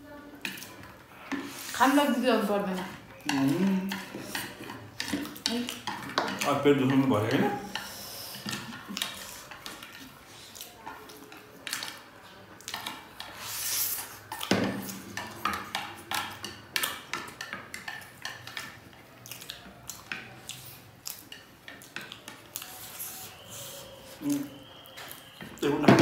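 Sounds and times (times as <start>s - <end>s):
chopsticks tapping on plates: 0.4s - 23.5s.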